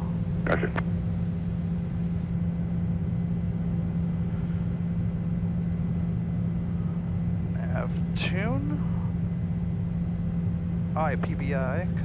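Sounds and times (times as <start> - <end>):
jet cockpit airflow rumble: 0.0 - 12.0
steady low hum: 0.0 - 12.0.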